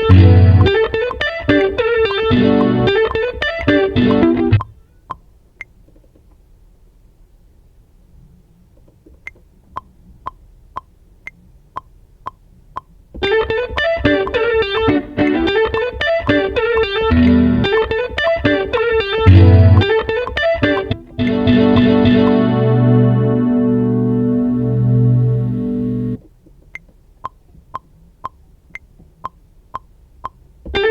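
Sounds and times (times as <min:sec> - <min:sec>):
soft ticking clicks: 0:00.0 - 0:06.5, 0:08.7 - 0:22.6, 0:26.2 - 0:30.8.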